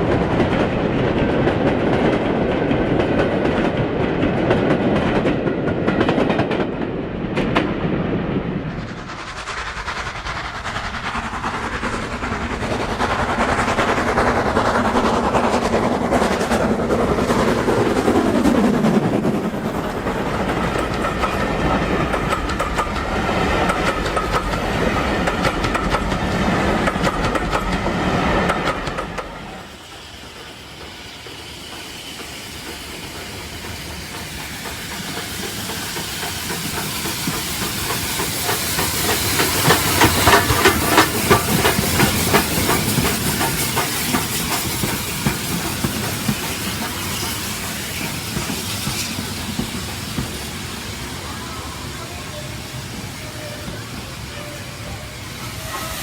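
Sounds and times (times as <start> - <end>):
model train running: 8.6 - 56.0.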